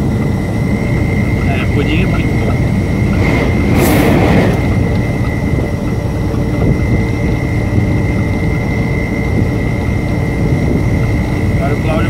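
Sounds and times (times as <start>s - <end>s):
high whine: 0.0s - 12.0s
truck engine and tyre drone: 0.0s - 12.0s.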